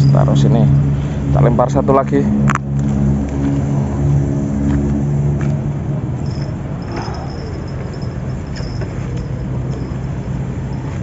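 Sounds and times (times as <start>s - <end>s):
motor engine droning: 0.0s - 11.0s.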